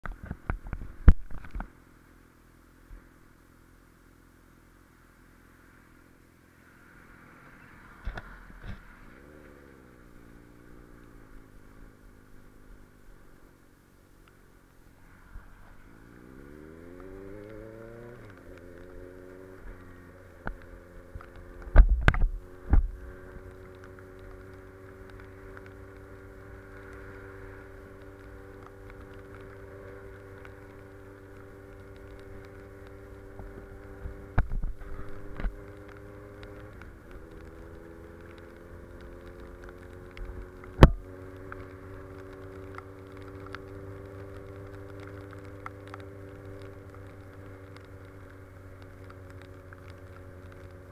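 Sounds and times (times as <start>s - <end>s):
motorcycle engine revving: 6.6s - 13.6s, 14.5s - 50.9s.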